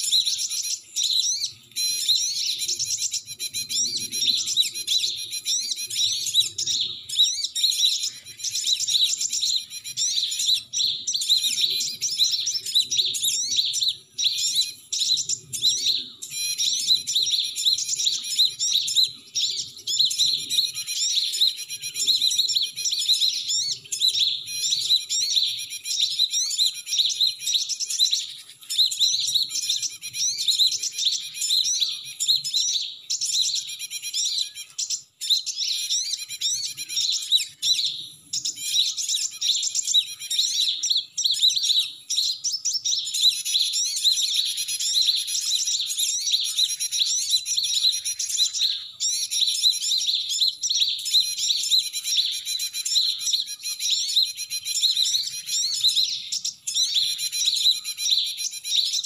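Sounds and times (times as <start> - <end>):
bird chirps and trills: 0.0 - 59.0.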